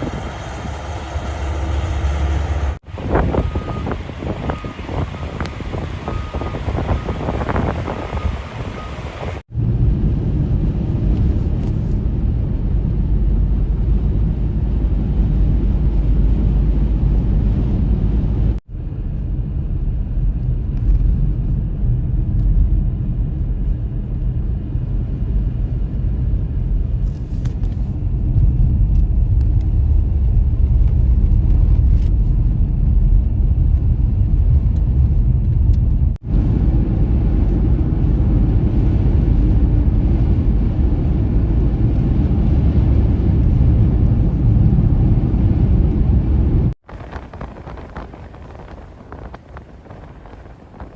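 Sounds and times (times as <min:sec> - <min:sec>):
blizzard wind buffeting microphone: 0:00.0 - 0:50.9.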